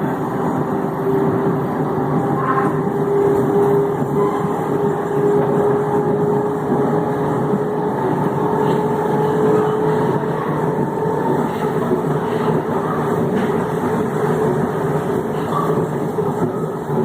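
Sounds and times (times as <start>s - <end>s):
train running gear rumble: 0.0s - 17.0s.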